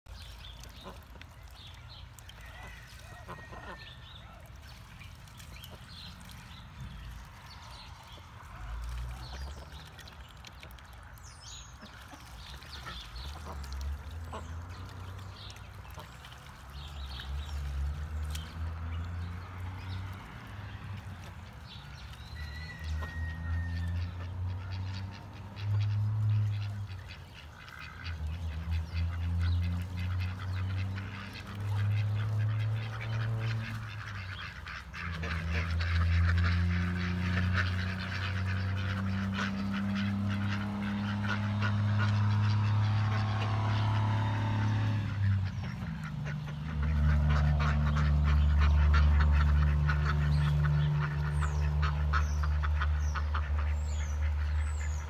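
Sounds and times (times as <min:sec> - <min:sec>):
ducks dabbling in water: 0:00.1 - 0:55.0
ducks quacking: 0:00.6 - 0:55.0.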